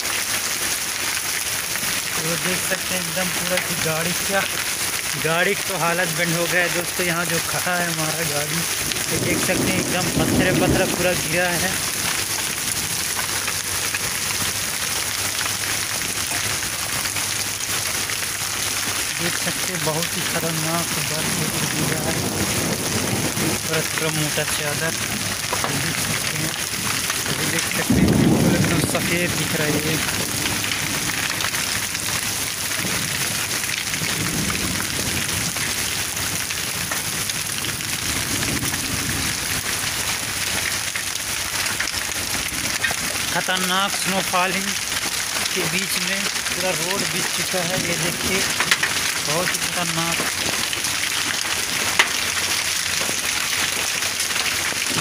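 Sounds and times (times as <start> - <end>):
hailstones striking: 0.0 - 55.0
heavy rain on wet pavement: 0.0 - 55.0.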